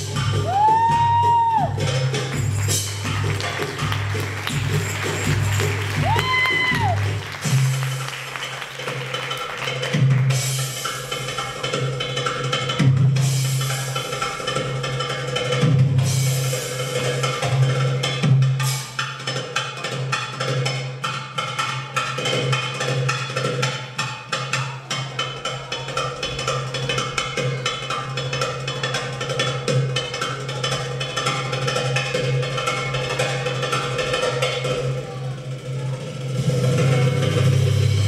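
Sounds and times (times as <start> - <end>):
fast hand-drum strokes: 0.0 - 38.0.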